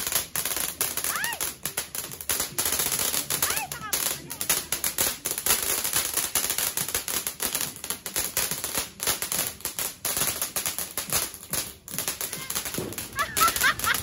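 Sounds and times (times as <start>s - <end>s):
firework crackling and hissing: 0.0s - 14.0s.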